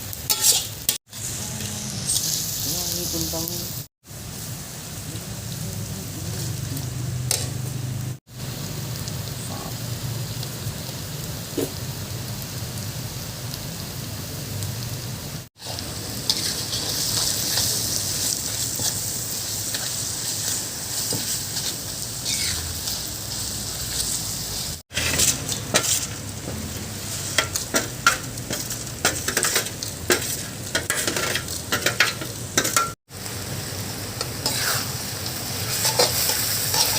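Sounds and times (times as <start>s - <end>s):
food sizzling in hot oil: 0.0s - 36.9s.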